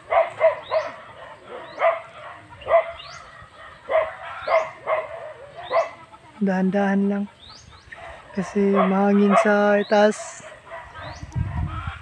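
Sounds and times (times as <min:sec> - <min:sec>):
dog barking: 0:00.0 - 0:06.0, 0:07.9 - 0:12.0.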